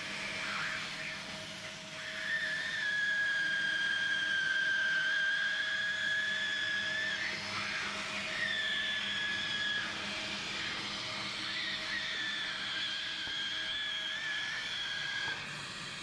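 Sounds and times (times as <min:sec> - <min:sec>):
high-pitched machine whine: 0:00.0 - 0:16.0.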